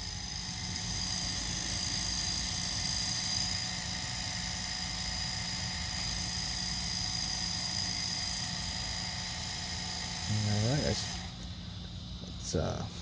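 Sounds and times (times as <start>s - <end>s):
wheelchair motor whining: 0.0s - 11.6s.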